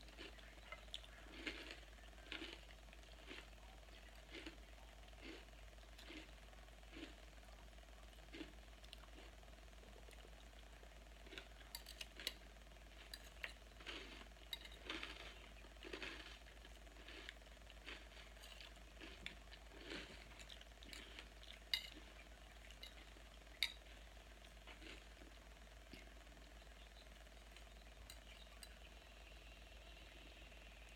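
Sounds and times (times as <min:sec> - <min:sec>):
person chewing crunchy salad: 0:00.0 - 0:29.1.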